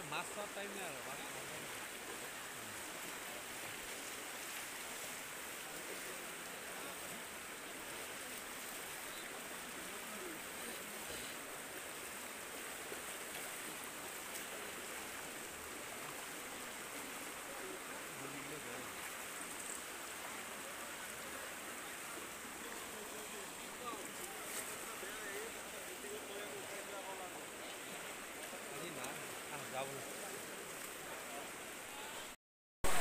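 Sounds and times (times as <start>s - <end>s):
floodwater rushing across road: 0.0s - 33.0s.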